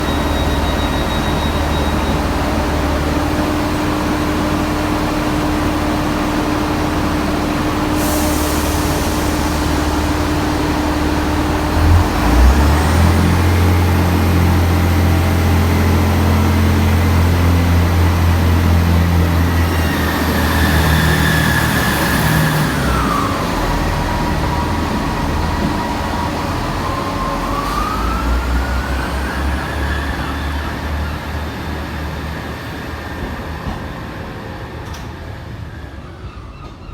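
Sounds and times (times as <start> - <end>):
diesel train engine running: 0.0 - 36.9.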